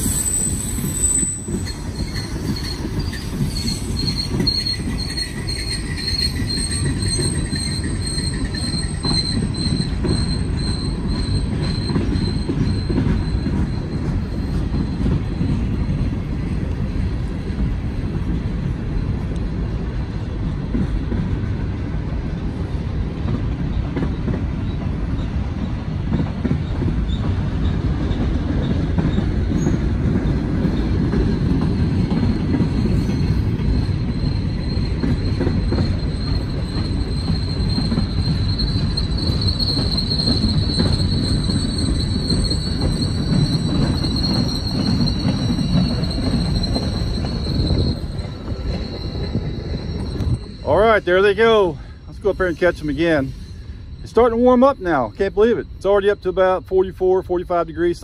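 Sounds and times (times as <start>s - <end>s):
high-pitched wheel squeal: 0.0s - 17.4s, 23.7s - 56.6s
freight train wheels rumbling on rails: 0.0s - 58.0s.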